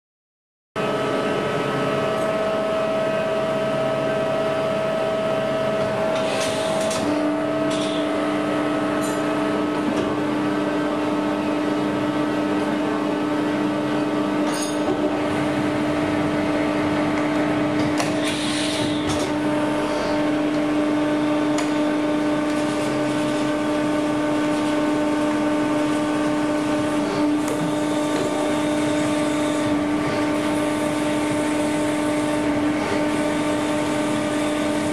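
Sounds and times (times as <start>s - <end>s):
lathe machine whine: 0.8s - 34.9s.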